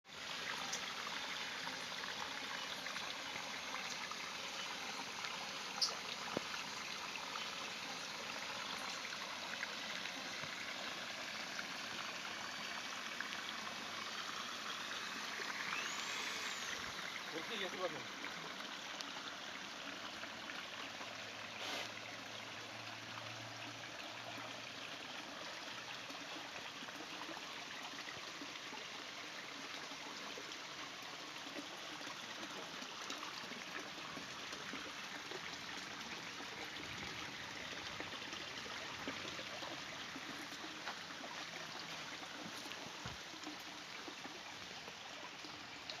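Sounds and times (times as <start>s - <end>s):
water trickling and splashing: 0.1s - 46.0s.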